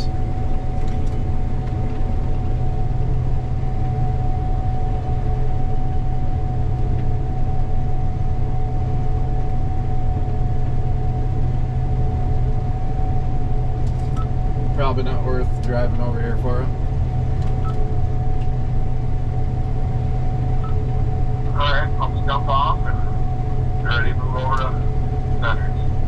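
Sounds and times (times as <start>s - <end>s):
combine harvester droning: 0.0s - 26.0s
thin steady whine: 0.0s - 26.0s.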